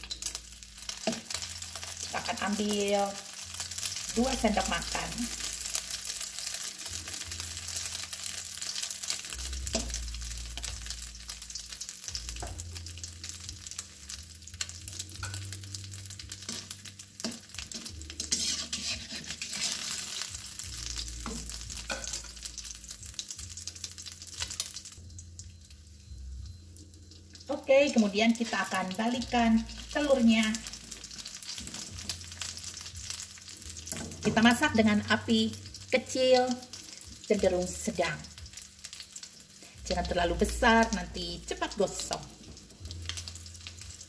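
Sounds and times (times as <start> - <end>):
egg sizzling in hot oil: 0.0 - 44.0.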